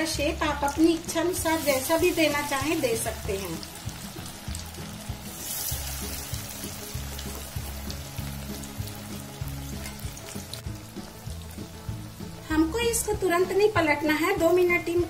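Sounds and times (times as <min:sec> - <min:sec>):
background music with bass line: 0:00.0 - 0:15.0
food sizzling in hot oil: 0:00.0 - 0:15.0.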